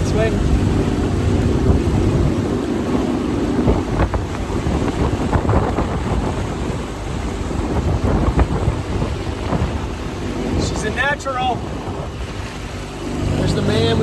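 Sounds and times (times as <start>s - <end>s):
outboard motor running: 0.0s - 14.0s
water against hull: 0.0s - 14.0s
wind buffeting microphone: 0.0s - 14.0s.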